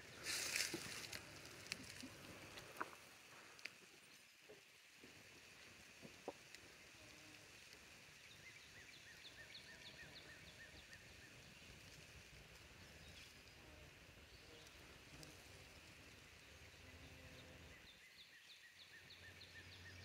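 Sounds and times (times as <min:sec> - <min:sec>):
faint background hiss: 0:00.0 - 0:20.0.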